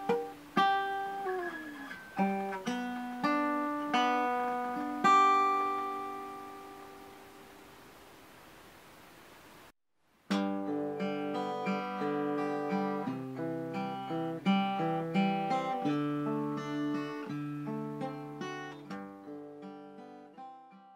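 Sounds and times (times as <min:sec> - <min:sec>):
acoustic guitar plucked notes: 0:00.0 - 0:07.7, 0:10.3 - 0:20.9.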